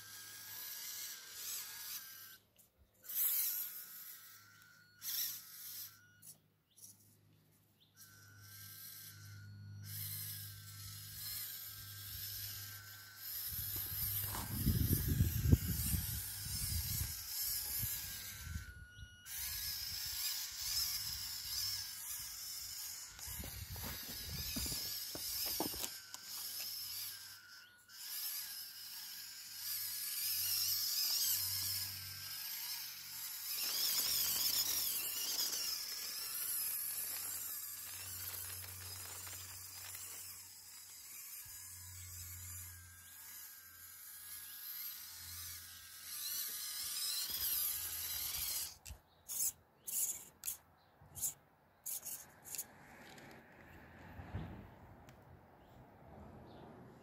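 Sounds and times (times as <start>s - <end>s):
small electric motor whine: 0.0s - 57.0s.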